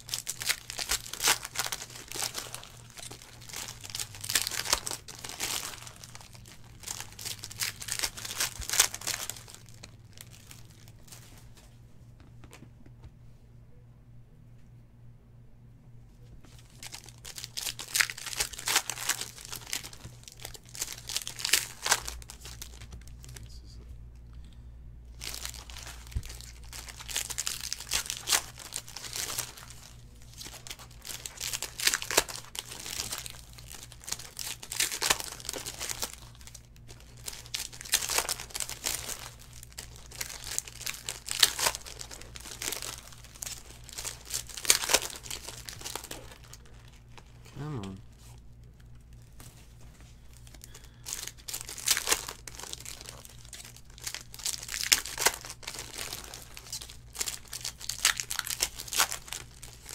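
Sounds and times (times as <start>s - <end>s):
foil wrappers crinkling and tearing: 0.0s - 11.6s, 16.5s - 23.4s, 25.1s - 59.9s.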